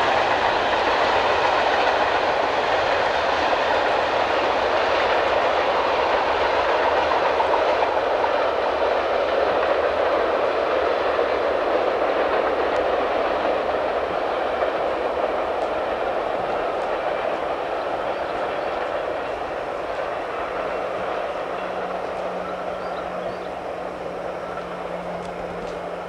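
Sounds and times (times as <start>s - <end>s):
train wheels rolling on track: 0.0s - 26.0s.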